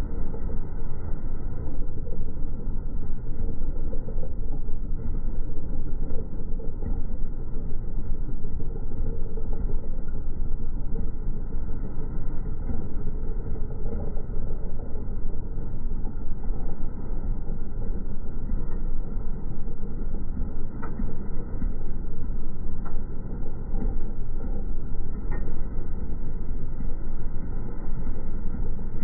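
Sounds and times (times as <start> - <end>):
slowed engine deep rumble: 0.0 - 29.0.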